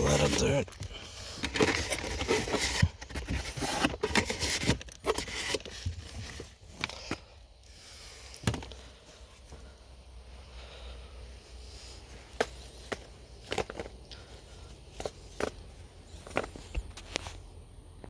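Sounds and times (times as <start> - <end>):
air filter rustling and crackling: 0.0 - 10.2, 11.4 - 17.7.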